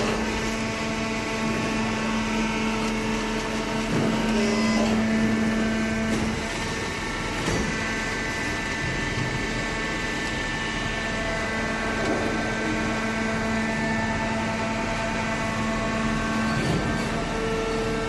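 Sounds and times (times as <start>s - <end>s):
hydraulic baler motor humming: 0.0s - 18.0s.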